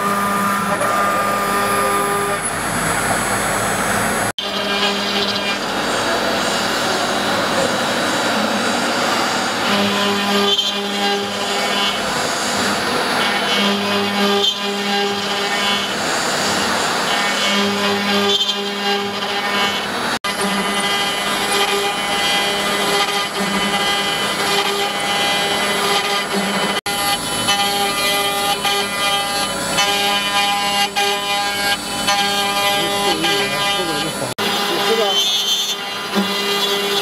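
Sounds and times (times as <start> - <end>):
router spindle whine: 0.0 - 37.0
rough cutting noise: 4.4 - 37.0.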